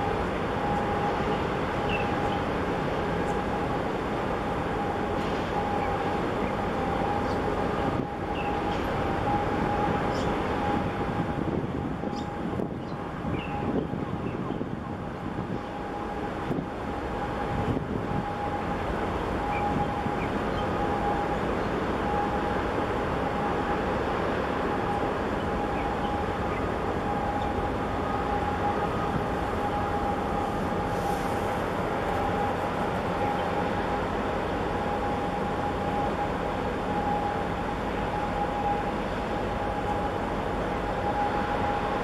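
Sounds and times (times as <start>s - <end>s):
ship machinery rumble: 0.0s - 42.0s
thin steady whine: 0.0s - 42.0s.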